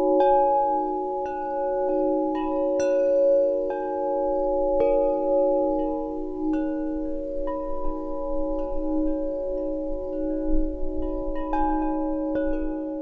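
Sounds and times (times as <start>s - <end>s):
sustained ringing tones: 0.0s - 13.0s.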